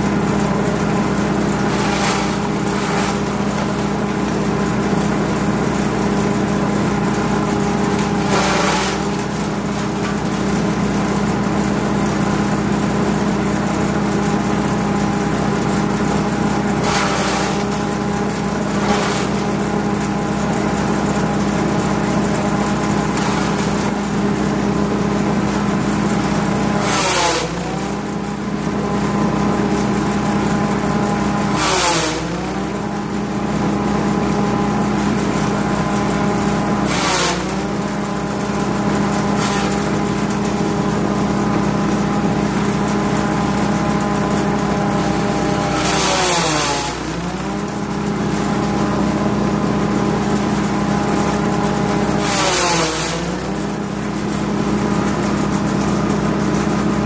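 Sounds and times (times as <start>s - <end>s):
petrol engine running: 0.0s - 31.6s, 32.4s - 52.4s, 53.1s - 57.0s
grass chopper rushing bursts: 0.0s - 57.0s.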